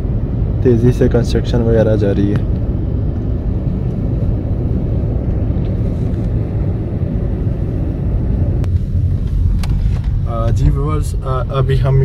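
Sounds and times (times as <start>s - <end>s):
car engine rumble inside cabin: 0.0s - 12.0s
tyre noise on road: 2.2s - 12.0s.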